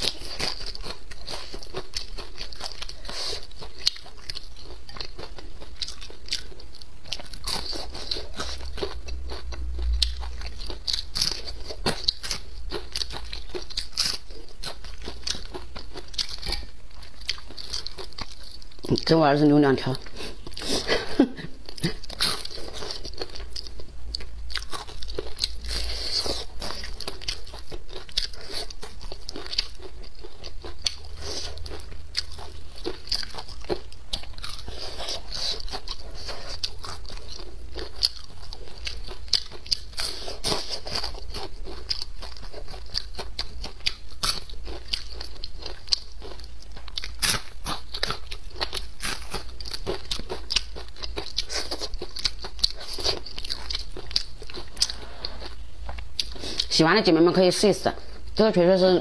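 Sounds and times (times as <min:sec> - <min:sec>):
crunching and chewing fried fish: 0:00.0 - 0:58.4.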